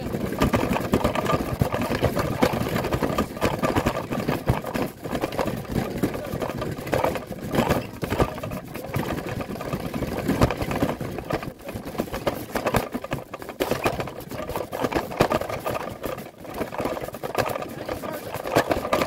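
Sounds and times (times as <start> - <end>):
wagon wheels and frame rattling: 0.0 - 19.0.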